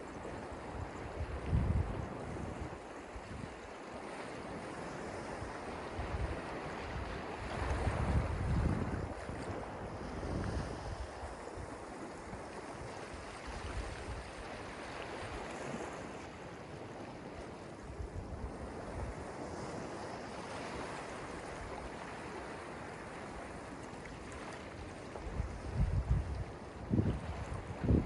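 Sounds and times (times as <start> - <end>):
small waves breaking on sand: 0.0 - 28.0.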